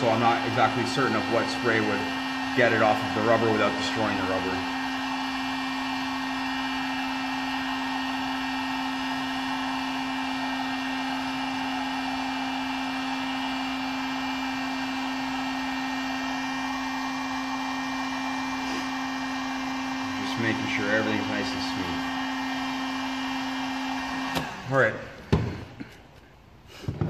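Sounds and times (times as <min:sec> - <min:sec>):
heat gun blower whirring: 0:00.0 - 0:27.0.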